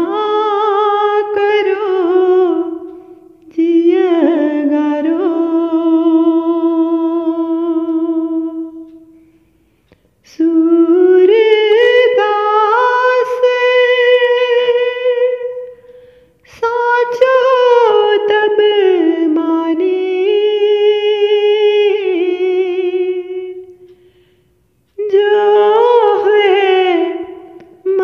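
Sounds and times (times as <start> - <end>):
woman singing unaccompanied: 0.0 - 9.2, 10.2 - 23.9, 25.0 - 28.0.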